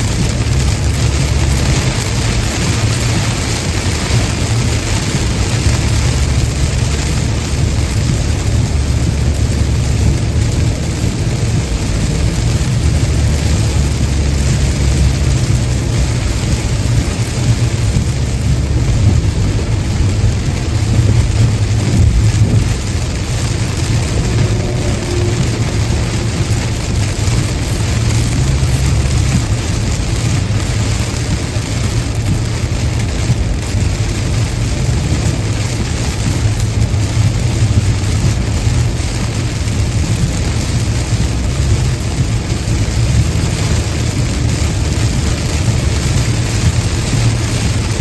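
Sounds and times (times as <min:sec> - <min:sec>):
car road rumble: 0:00.0 - 0:48.0
rain and tyre spray hiss: 0:00.0 - 0:48.0.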